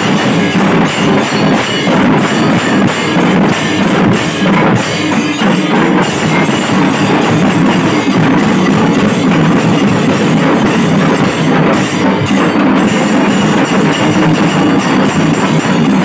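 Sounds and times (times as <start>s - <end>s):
barrel drums beaten with sticks: 0.0s - 16.0s
brass hand cymbals clashing: 0.0s - 16.0s.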